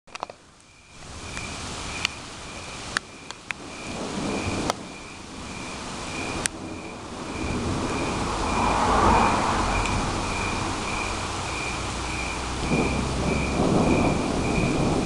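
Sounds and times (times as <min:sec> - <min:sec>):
rain and wind: 0:00.1 - 0:15.0.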